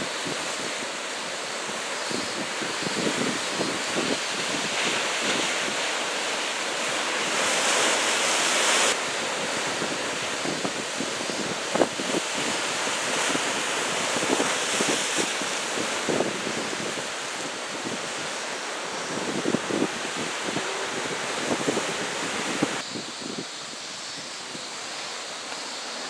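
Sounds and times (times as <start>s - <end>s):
wind buffeting microphone: 0.0s - 5.9s, 9.2s - 24.6s
ocean surf rushing: 0.0s - 22.8s.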